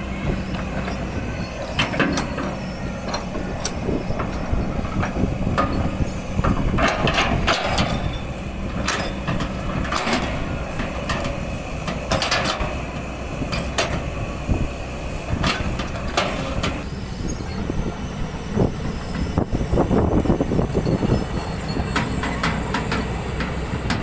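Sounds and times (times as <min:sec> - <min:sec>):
excavator diesel engine: 0:00.0 - 0:24.0
clanks and scrapes in soil: 0:00.2 - 0:14.6, 0:15.2 - 0:24.0.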